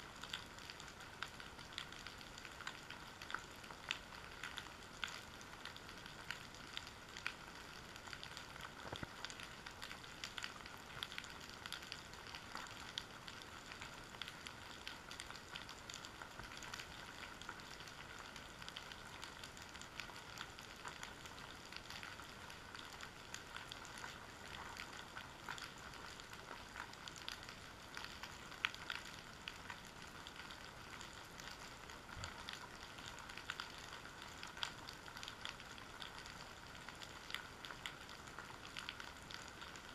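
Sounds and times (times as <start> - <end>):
underwater crackling and clicking: 0.0 - 39.9.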